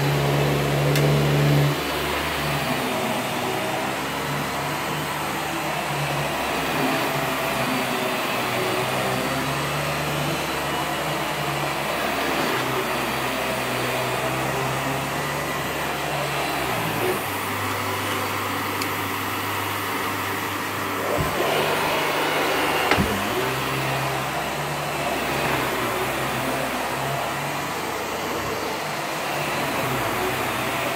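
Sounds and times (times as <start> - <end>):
vacuum cleaner on carpet: 0.0 - 30.9.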